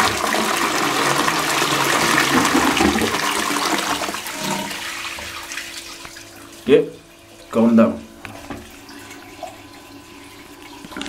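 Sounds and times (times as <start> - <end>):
toilet flushing: 0.0 - 11.0.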